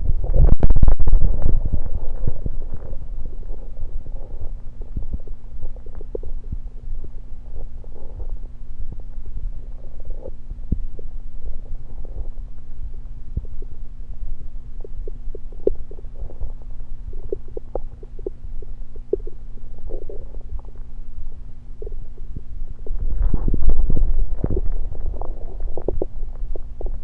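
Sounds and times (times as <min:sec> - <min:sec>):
low hum: 0:00.0 - 0:27.0
stomach gurgling: 0:00.0 - 0:27.0.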